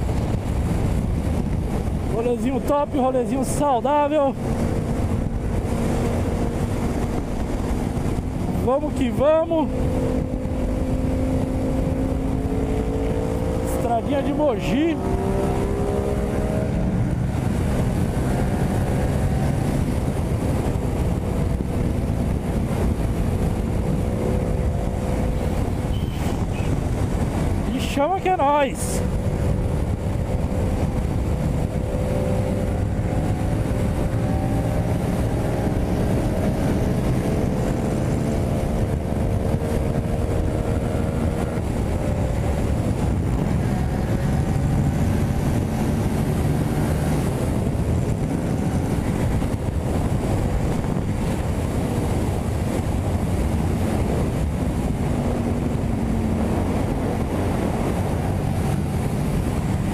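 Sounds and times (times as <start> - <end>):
motorcycle engine pulling steadily: 0.0 - 59.9
wind rush on microphone: 0.0 - 59.9.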